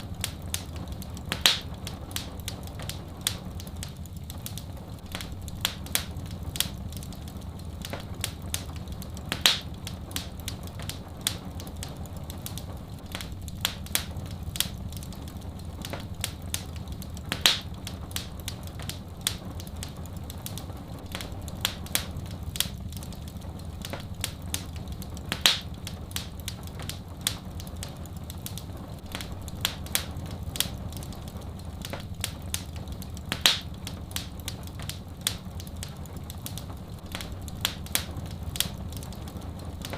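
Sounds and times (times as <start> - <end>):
low rush of fire: 0.0 - 39.9
wood fire crackling: 0.0 - 39.9.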